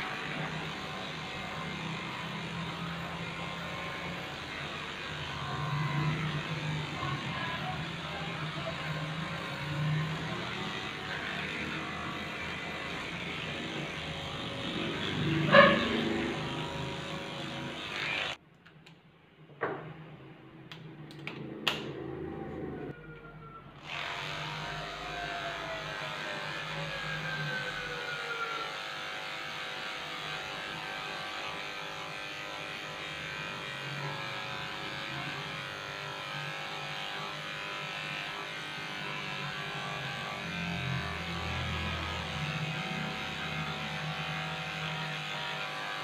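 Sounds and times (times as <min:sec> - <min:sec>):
electric hair clippers buzzing: 0:00.0 - 0:18.4, 0:23.8 - 0:46.0.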